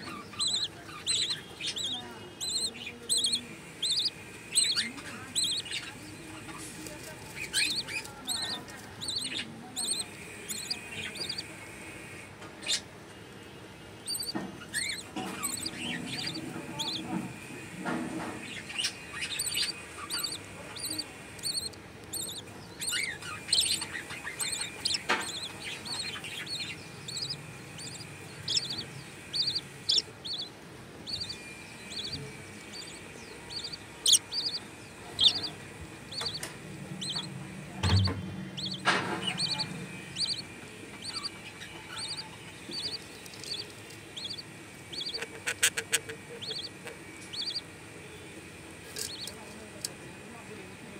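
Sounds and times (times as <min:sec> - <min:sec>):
budgerigar chicks cheeping: 0:00.0 - 0:12.9, 0:14.0 - 0:50.0.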